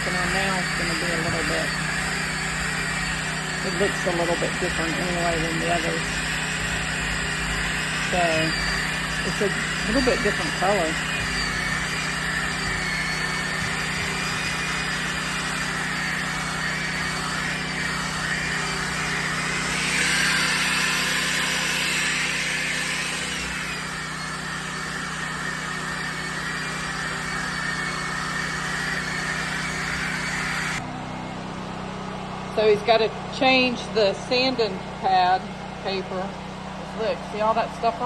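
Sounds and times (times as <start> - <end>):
power sander on wood: 0.0 - 38.0.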